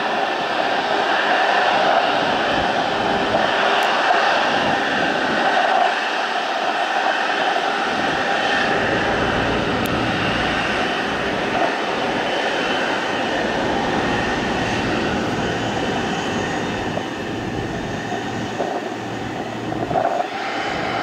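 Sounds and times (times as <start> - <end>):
jet engines taxiing: 0.0 - 21.0.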